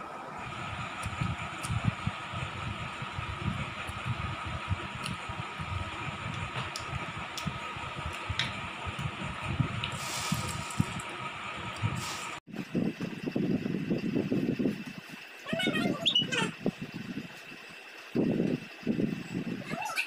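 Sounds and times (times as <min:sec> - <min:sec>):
steady hum: 0:00.0 - 0:19.7.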